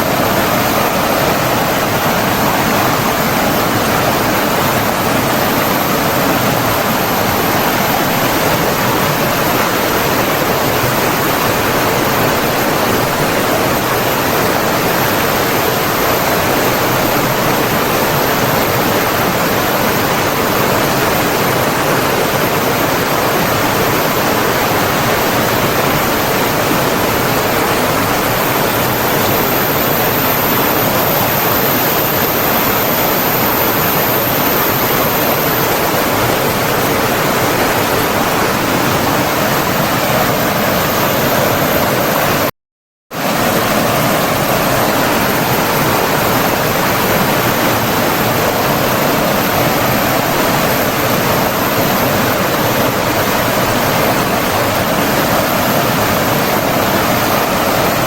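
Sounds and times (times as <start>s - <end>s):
rushing flowing water: 0.0s - 42.5s, 43.2s - 58.0s.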